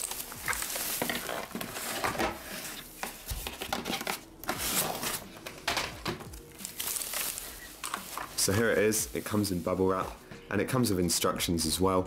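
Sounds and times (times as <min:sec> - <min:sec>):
bubble wrap crinkling: 0:00.0 - 0:10.2.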